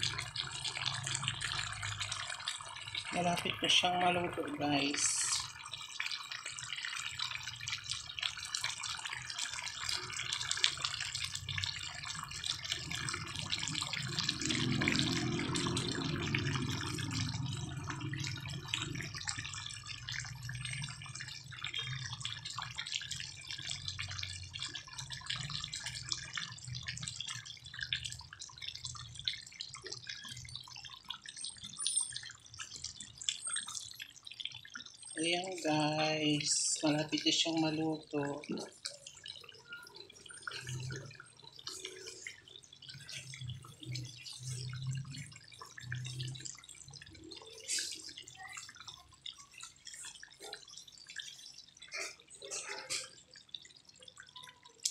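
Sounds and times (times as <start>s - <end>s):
stew bubbling in a pan: 0.0s - 54.9s.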